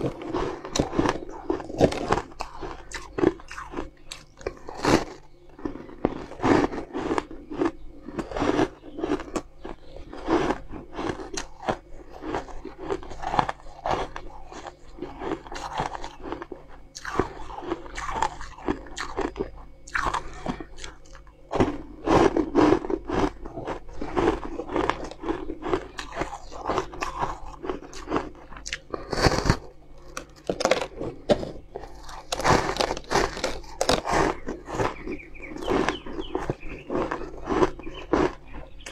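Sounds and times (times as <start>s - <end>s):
chewing ice crunches: 0.0s - 38.9s.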